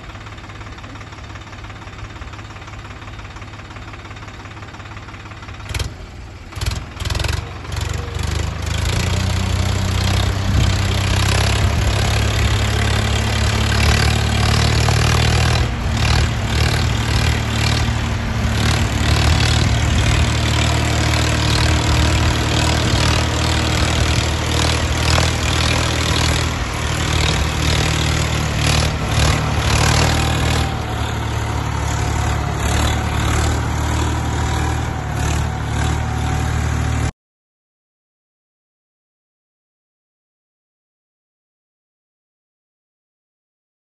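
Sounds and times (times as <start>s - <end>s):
tractor diesel engine under load: 0.0s - 37.1s.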